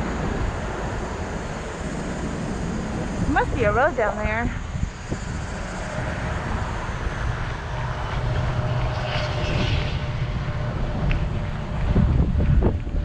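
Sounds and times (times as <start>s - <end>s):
traffic rumble: 0.0s - 13.0s
vehicle passing: 0.0s - 13.0s.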